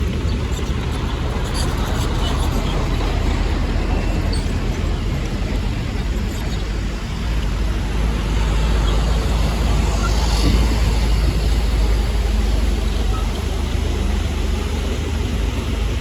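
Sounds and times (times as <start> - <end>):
heavy diesel machinery engine drone: 0.0 - 16.0.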